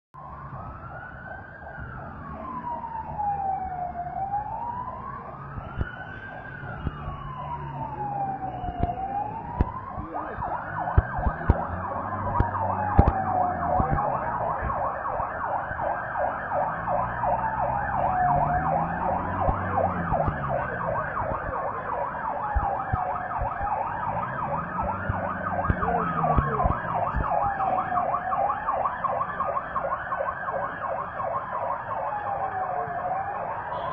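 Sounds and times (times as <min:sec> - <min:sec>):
fast-warbling siren: 0:00.2 - 0:33.9
siren wailing slowly: 0:00.2 - 0:33.9.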